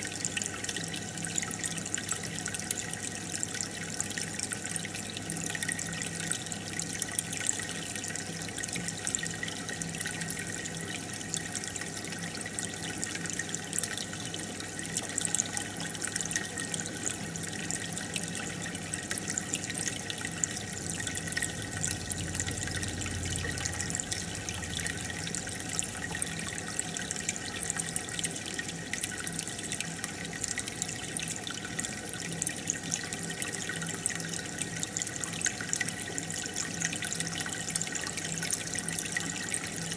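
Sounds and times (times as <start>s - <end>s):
aquarium water bubbling: 0.0s - 39.9s
faint steady hum: 0.0s - 39.9s.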